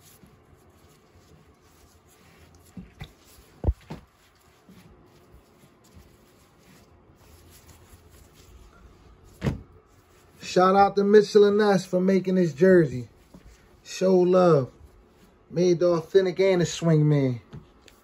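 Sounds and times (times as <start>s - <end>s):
fabric rustling: 0.0s - 11.6s, 12.4s - 15.5s.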